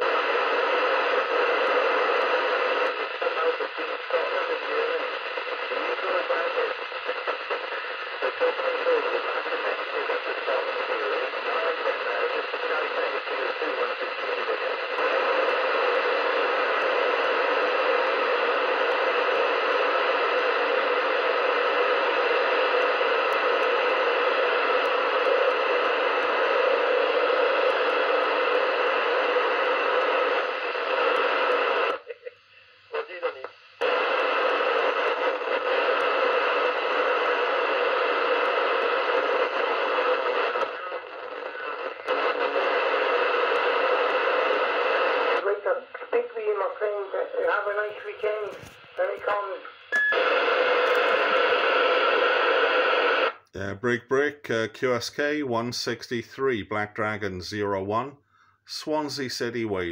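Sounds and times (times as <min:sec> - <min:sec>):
cb radio static hiss: 0:00.0 - 0:59.9.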